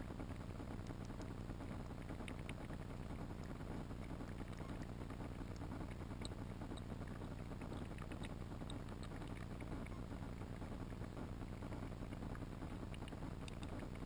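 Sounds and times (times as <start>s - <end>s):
faint ticks: 0.0s - 14.0s
muffled underwater rumble and hiss: 0.0s - 14.0s.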